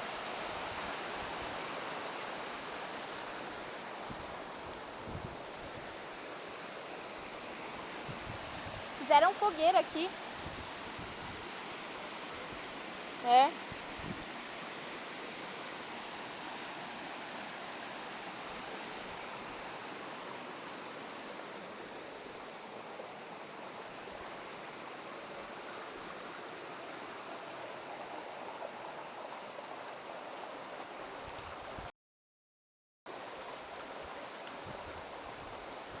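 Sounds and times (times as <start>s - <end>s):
waterfall rushing: 0.0s - 31.1s.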